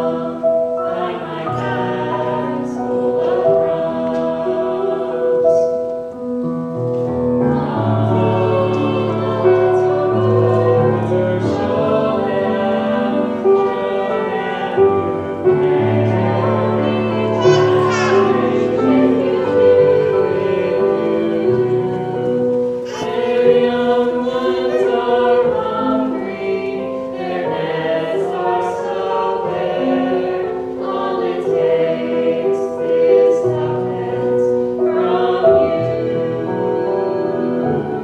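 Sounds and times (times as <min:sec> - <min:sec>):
vocal ensemble singing in harmony: 0:00.0 - 0:38.0.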